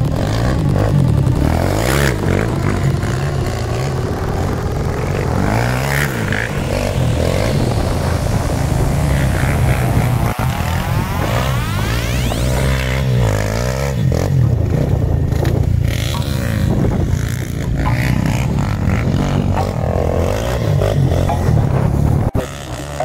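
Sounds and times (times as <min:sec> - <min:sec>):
quad bike engine revving: 0:00.0 - 0:23.0.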